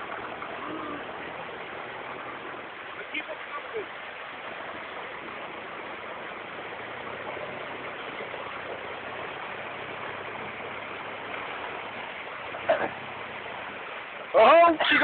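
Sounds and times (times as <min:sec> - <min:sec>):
truck engine running: 0:00.0 - 0:14.6
water rushing: 0:00.0 - 0:15.0.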